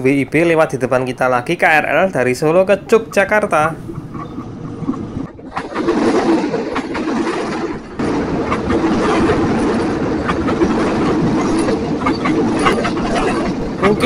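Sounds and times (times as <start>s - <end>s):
train wheels rumbling on rails: 0.0s - 14.0s
wheels clicking over rail joints: 0.0s - 14.0s.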